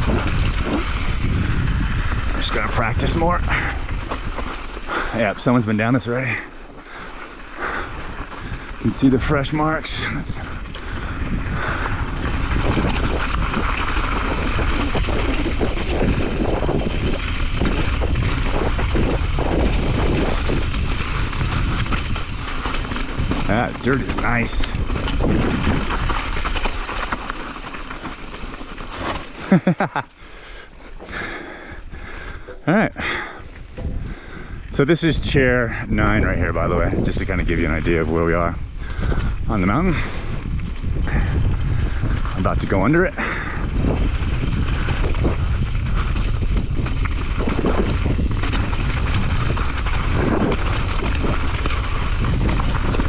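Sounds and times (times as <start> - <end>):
wind noise on microphone: 0.0 - 27.4, 31.1 - 53.0
bike rattle: 0.0 - 35.2, 36.1 - 53.0
bike tyres crunching on gravel: 0.0 - 53.0.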